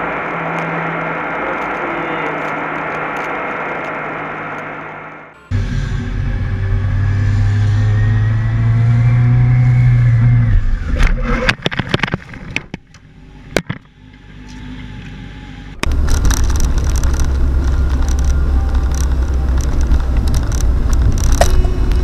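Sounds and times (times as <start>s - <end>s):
car engine running: 0.0s - 10.5s, 13.0s - 22.0s
car road noise: 0.0s - 22.0s.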